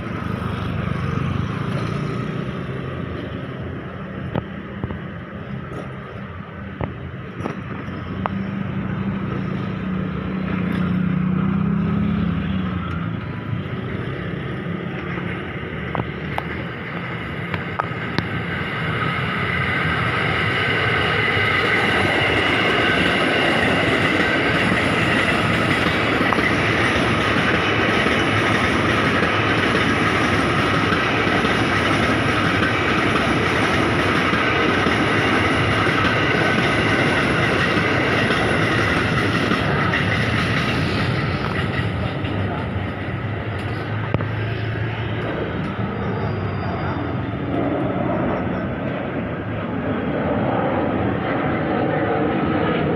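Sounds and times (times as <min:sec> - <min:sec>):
train wheels rushing on rails: 0:00.0 - 0:52.9.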